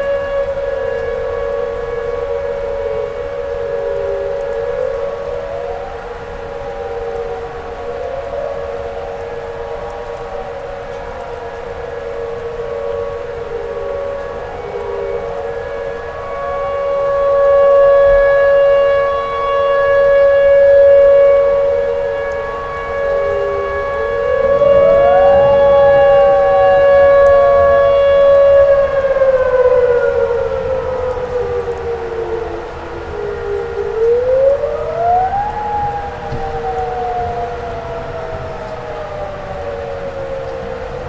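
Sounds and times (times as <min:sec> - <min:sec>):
siren rising and falling pitch: 0:00.0 - 0:41.0
warning siren steady high tone: 0:00.0 - 0:41.0.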